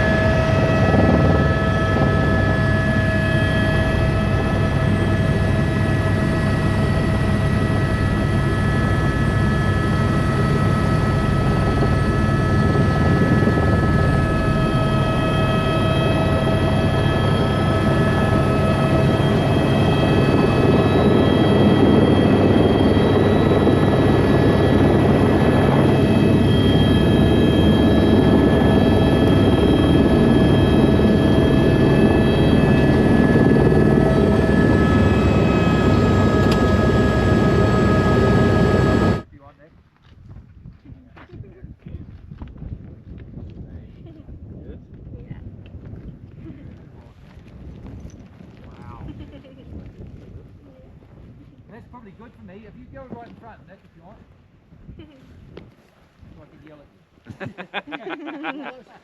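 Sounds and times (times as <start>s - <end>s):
helicopter rotor beat: 0.0s - 39.3s, 44.0s - 54.3s, 57.5s - 59.0s
helicopter turbine whine: 0.0s - 39.7s, 44.0s - 55.6s, 56.4s - 59.0s.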